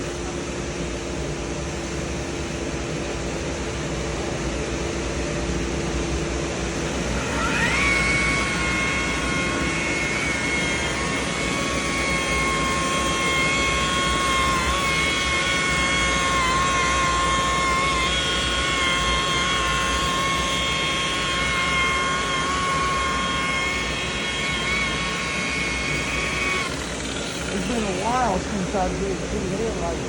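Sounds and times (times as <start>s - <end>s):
electric buffer whining: 0.0s - 30.0s.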